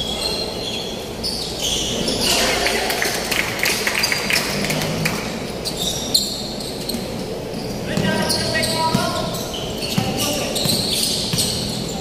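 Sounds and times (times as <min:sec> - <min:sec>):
sneakers squeaking: 0:00.0 - 0:12.0.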